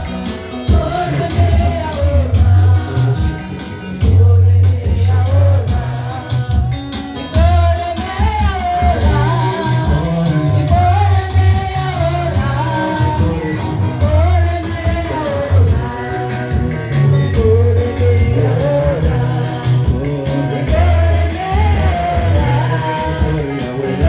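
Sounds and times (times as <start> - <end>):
bass notes: 0.0 - 24.0
drum beat: 0.0 - 24.0
person singing: 0.0 - 24.0.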